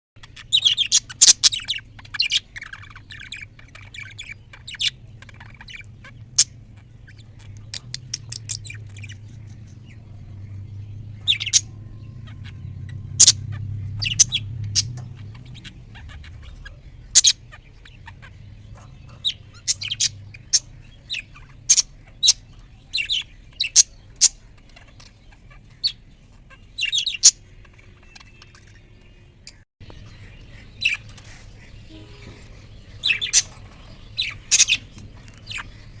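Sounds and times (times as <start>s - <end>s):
parrot chirping and squawking: 0.2s - 10.6s, 11.2s - 36.0s.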